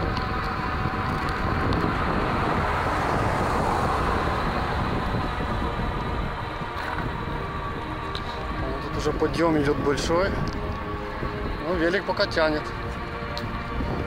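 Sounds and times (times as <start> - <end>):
car passing: 0.0 - 14.0
wind buffeting microphone: 0.0 - 14.0.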